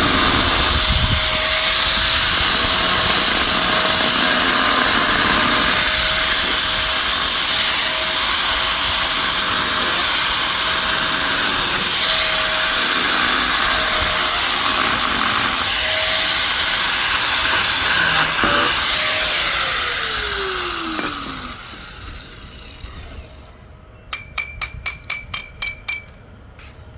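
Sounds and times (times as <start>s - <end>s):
electric drill grinding into stone: 0.0s - 23.5s.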